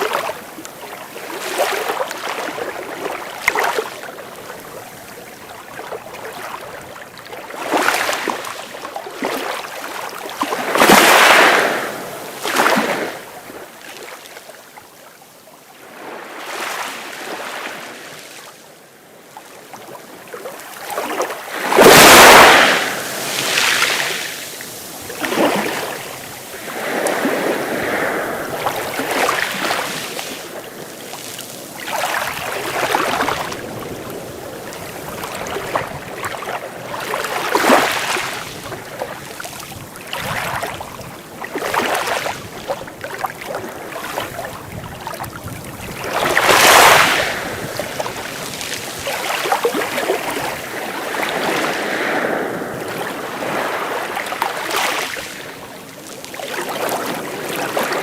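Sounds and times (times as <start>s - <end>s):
sea waves breaking: 0.0s - 14.3s, 19.1s - 58.0s.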